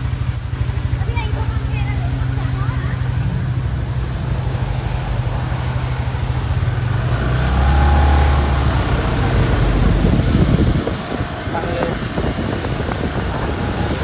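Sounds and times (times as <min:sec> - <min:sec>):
bus passing: 0:00.0 - 0:14.0
road noise on wet street: 0:00.0 - 0:14.0
vehicle engine running: 0:00.0 - 0:14.0.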